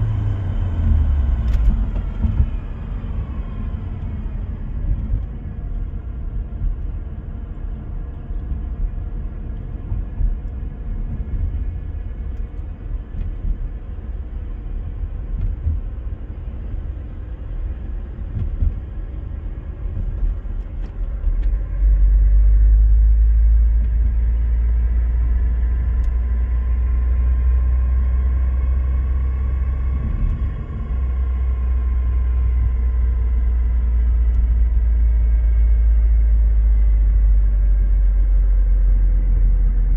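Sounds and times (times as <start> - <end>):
road and drivetrain rumble: 0.0 - 39.9.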